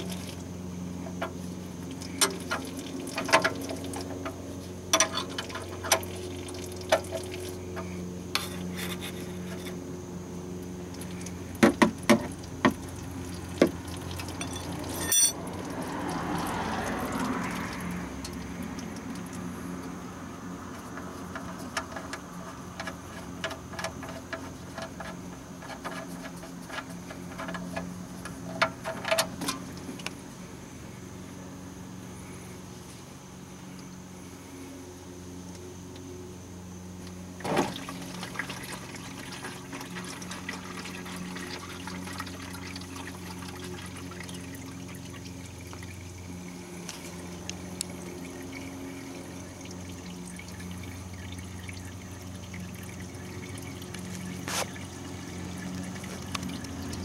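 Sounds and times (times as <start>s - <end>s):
oil pouring out: 0.0s - 31.0s, 37.2s - 57.0s.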